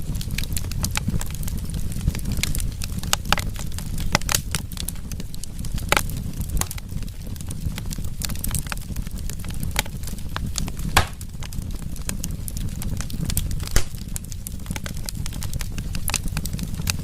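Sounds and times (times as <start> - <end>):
loud fire pops: 0.0 - 17.0
wood fire crackling: 0.0 - 17.0.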